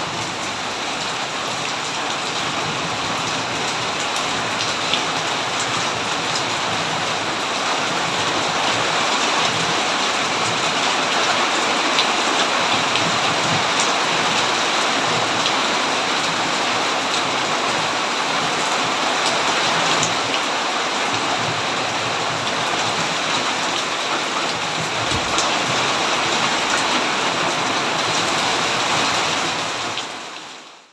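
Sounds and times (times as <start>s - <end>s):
heavy rain pattering: 0.0s - 30.9s.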